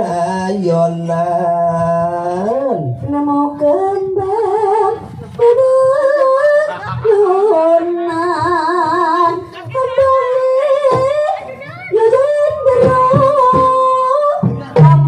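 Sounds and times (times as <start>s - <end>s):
woman singing over loudspeakers: 2.4s - 15.0s.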